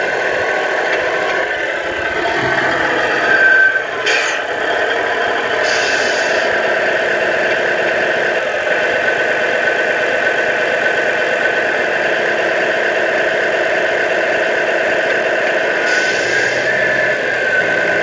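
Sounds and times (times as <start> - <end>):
toy truck motor drone: 0.0 - 18.0.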